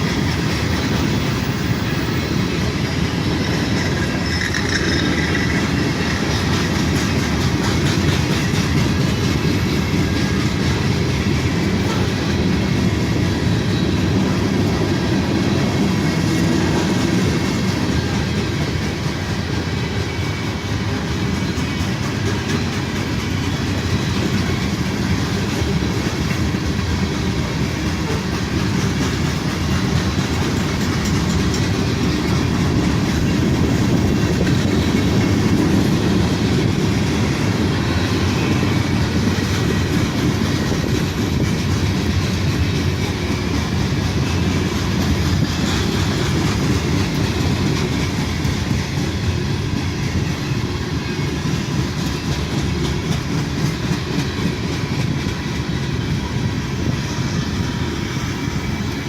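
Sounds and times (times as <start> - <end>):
freight train cars rumbling past: 0.0 - 59.0
steel wheels clicking over rail joints: 0.0 - 59.0.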